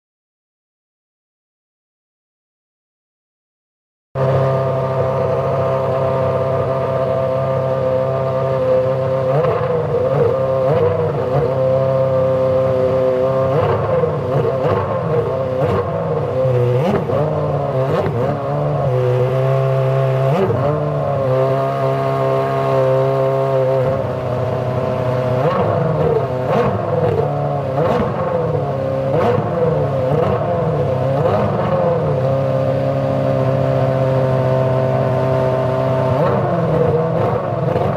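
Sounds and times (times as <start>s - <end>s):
racing car engine revving: 4.2s - 37.9s.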